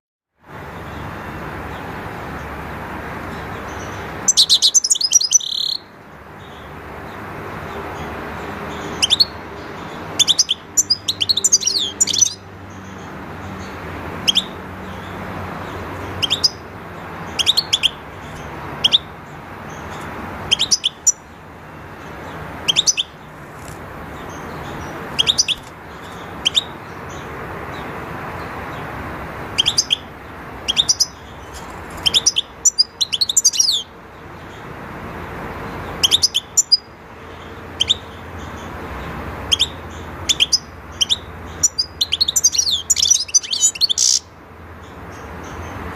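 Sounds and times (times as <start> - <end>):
finches chirping: 0.7 - 45.9.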